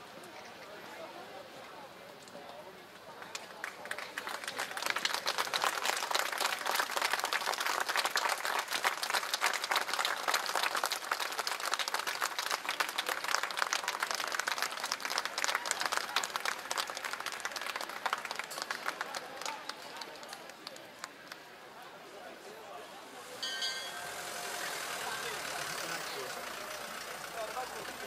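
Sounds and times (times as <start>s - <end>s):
crowd applauding: 3.2s - 21.5s, 23.4s - 28.0s.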